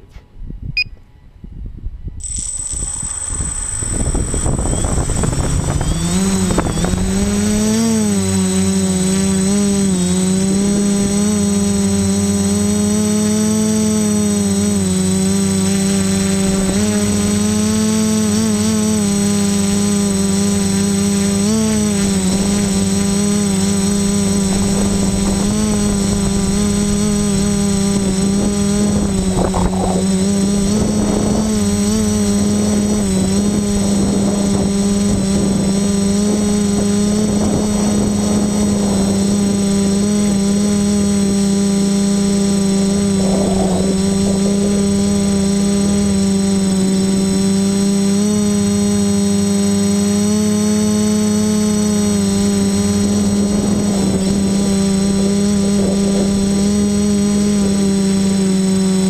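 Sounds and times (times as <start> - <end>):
quadcopter motors whining: 2.0 - 59.0.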